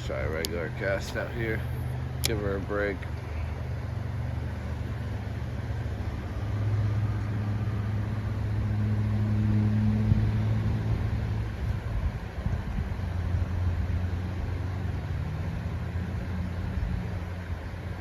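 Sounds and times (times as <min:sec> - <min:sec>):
road traffic droning: 0:00.0 - 0:18.0
vehicle passing close by: 0:00.0 - 0:18.0.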